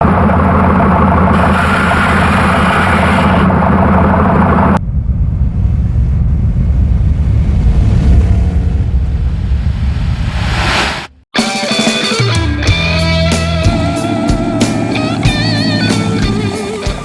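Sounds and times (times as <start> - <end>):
engine running: 0.0 - 11.2, 12.2 - 17.0.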